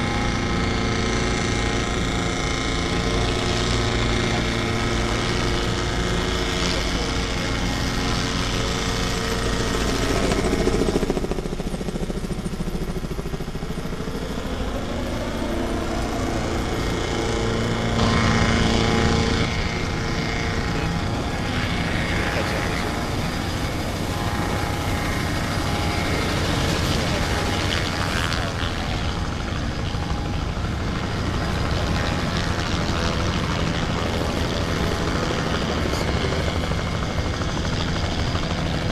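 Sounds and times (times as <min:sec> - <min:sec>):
boat engines running: 0:00.0 - 0:38.9
helicopter running: 0:00.0 - 0:38.9.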